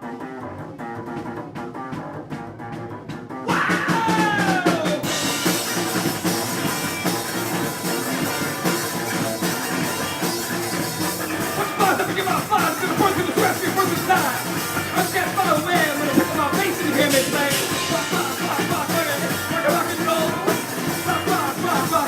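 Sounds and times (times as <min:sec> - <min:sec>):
bass guitar: 0:00.0 - 0:22.0
drum kit: 0:00.0 - 0:22.0
electric guitar: 0:00.5 - 0:22.0.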